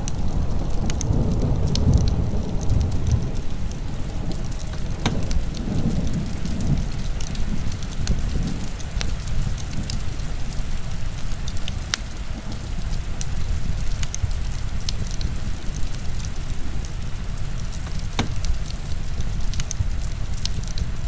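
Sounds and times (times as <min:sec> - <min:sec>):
heavy rain falling: 0:00.0 - 0:21.0
wood fire crackling and popping: 0:00.0 - 0:21.0.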